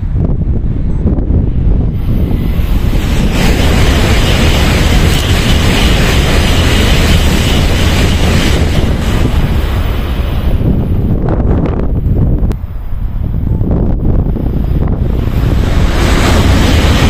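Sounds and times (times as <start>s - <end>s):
train rushing past: 0.0s - 17.0s
wind buffeting microphone: 0.0s - 17.0s.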